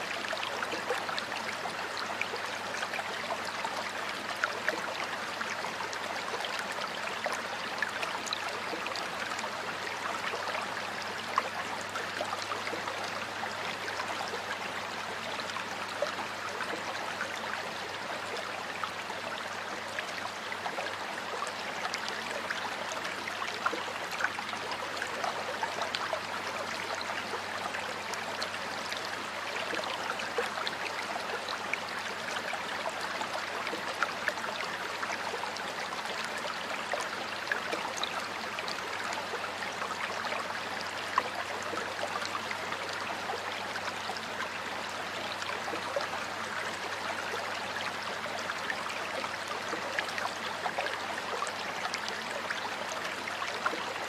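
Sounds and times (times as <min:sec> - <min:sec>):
stream water flowing over rocks: 0:00.0 - 0:54.0.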